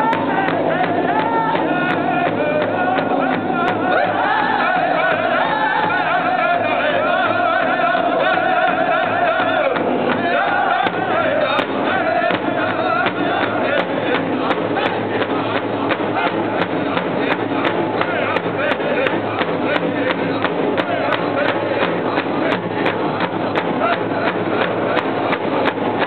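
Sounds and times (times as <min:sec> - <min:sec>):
group singing in wavering voices: 0:00.0 - 0:26.0
large drum steady beat: 0:00.0 - 0:26.0.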